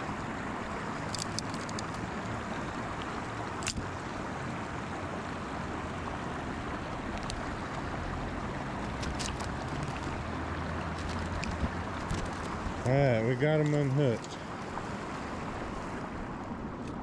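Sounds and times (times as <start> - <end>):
moving water: 0.0 - 17.0
wind: 0.0 - 17.0.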